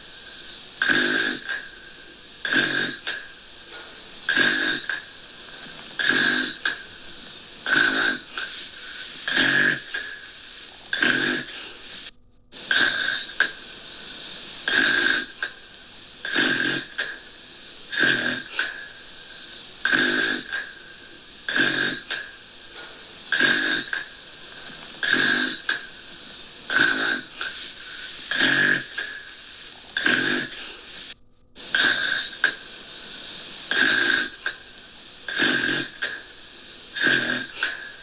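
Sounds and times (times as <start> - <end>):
faint steady hiss: 0.0 - 38.0
gentle snoring: 0.0 - 38.0.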